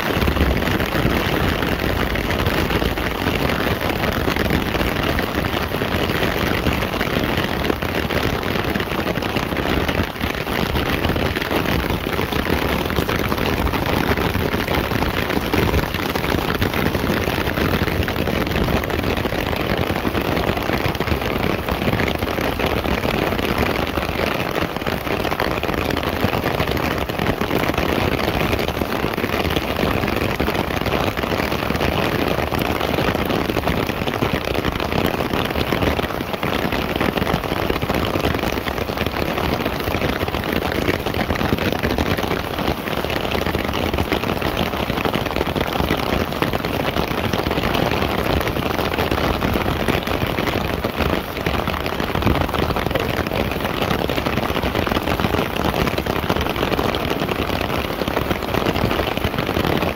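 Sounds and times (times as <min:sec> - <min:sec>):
rain pattering on umbrella: 0:00.0 - 0:59.9
rain splashing on pavement: 0:00.0 - 0:59.9.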